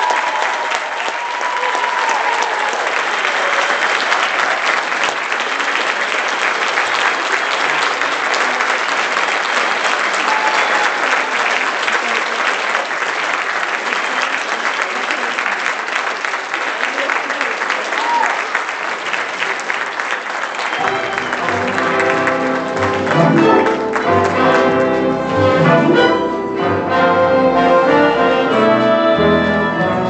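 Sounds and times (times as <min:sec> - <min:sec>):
audience applauding: 0:00.0 - 0:26.4.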